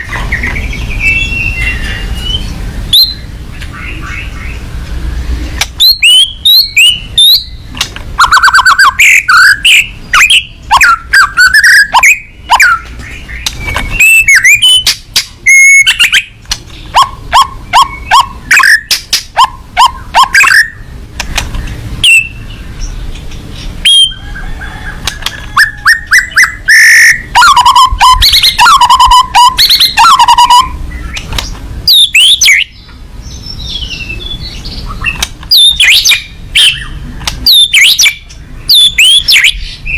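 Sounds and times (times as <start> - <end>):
songbird whistling song: 0.0 - 4.6, 5.8 - 20.9, 21.5 - 39.9.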